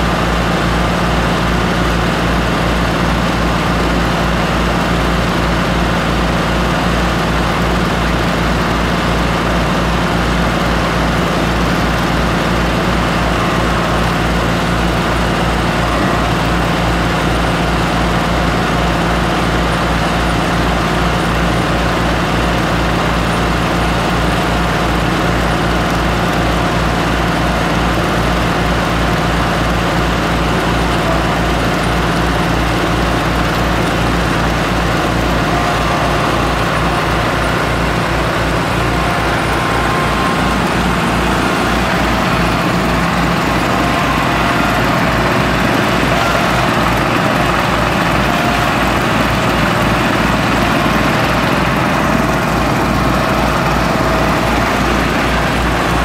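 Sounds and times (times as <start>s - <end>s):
small gas engine running: 0.0s - 56.0s
tractor engine running: 0.0s - 56.0s.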